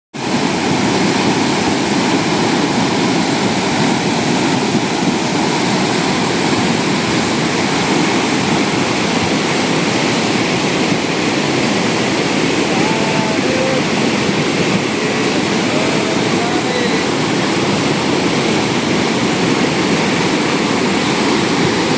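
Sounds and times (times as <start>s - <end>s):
rushing floodwater: 0.2s - 21.9s.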